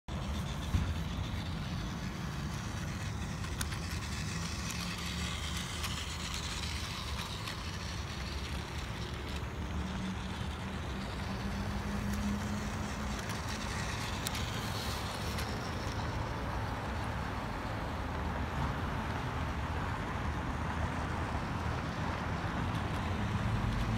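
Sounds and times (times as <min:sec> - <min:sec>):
street traffic rumble: 0:00.0 - 0:23.9
engine hum: 0:00.1 - 0:23.9
toy train motor whir: 0:00.1 - 0:23.9.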